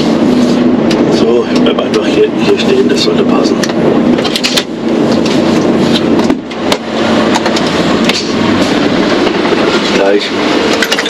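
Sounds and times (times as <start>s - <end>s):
truck diesel engine drone: 0.0s - 11.0s
rattles and clanks: 0.8s - 11.0s.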